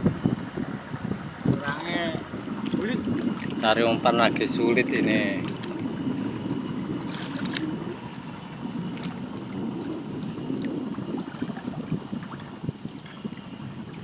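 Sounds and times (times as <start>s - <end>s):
faint water splashes: 1.4s - 14.0s
shallow water sloshing: 1.4s - 14.0s.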